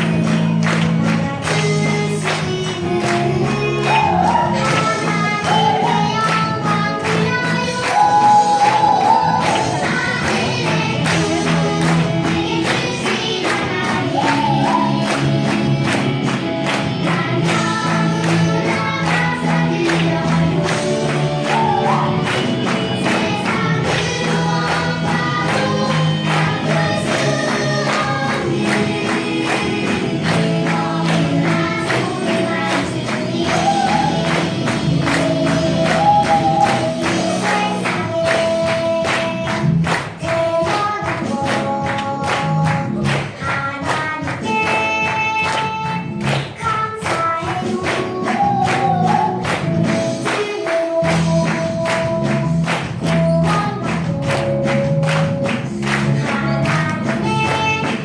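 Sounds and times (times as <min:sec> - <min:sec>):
group of voices singing: 0:01.2 - 0:44.9, 0:46.4 - 0:58.0.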